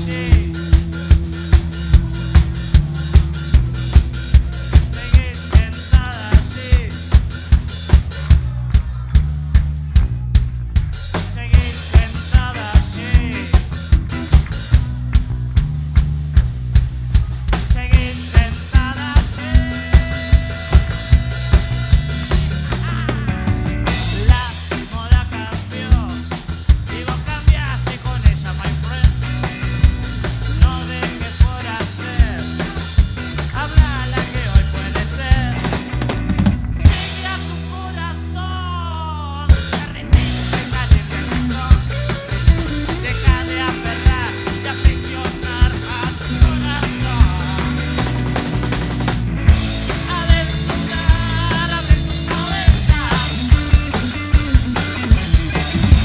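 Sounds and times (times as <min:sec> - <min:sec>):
drum kit beat: 0:00.0 - 0:56.0
rock band playing instrumental: 0:00.0 - 0:56.0.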